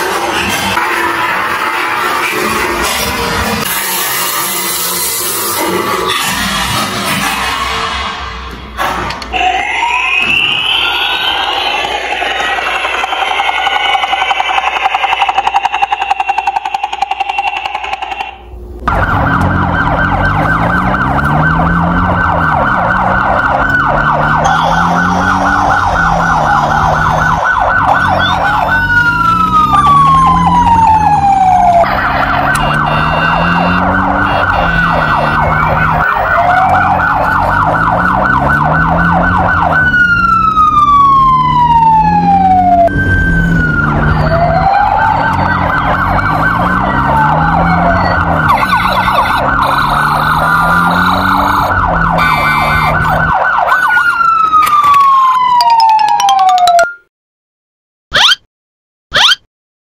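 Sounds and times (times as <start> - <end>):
descending siren tone: 0.0 - 8.3, 9.2 - 57.1, 58.1 - 58.5, 59.1 - 59.5
sirens warbling and wailing: 0.0 - 57.1, 58.1 - 58.5, 59.1 - 59.5.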